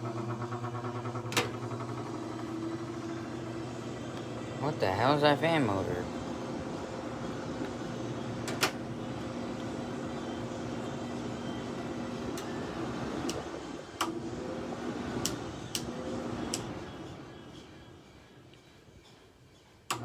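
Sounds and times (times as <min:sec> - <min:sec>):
air conditioner fan humming: 0:00.0 - 0:20.0.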